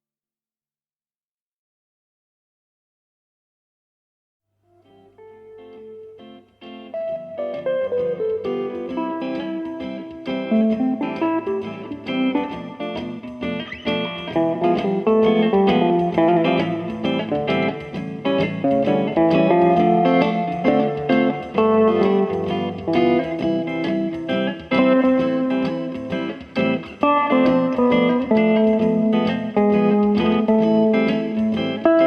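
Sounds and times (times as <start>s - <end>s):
acoustic guitar picked notes and chords: 4.7s - 32.0s.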